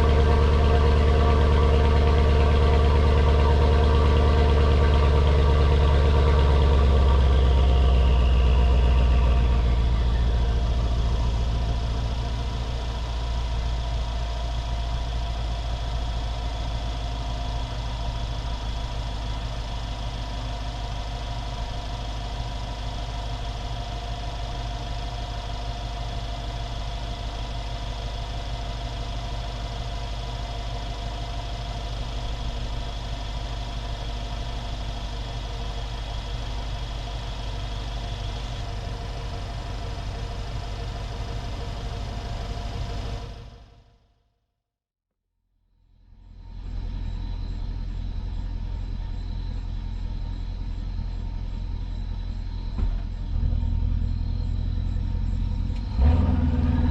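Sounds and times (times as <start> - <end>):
car engine idling: 0.0 - 43.8, 46.0 - 56.9.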